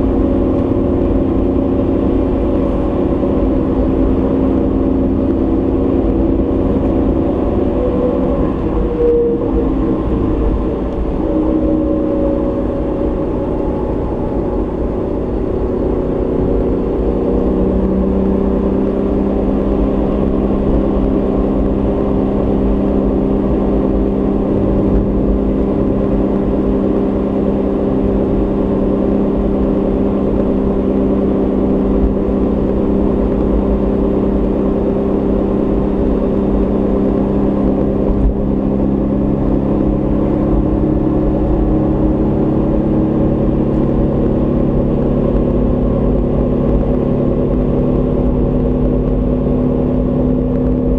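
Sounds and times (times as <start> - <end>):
car engine droning: 0.0 - 50.9
tyre road noise: 0.0 - 50.9.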